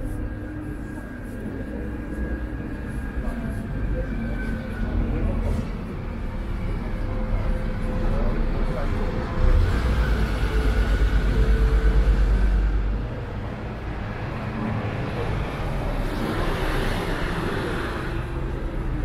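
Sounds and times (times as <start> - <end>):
vehicle engine rumble: 0.0 - 19.0
passing vehicle rush: 2.5 - 19.0.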